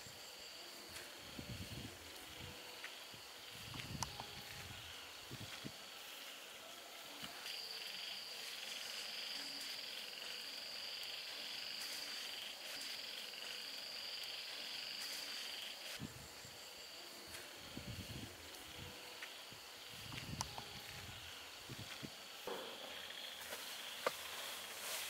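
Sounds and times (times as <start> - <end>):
insects and frogs calling: 0.0 - 25.0.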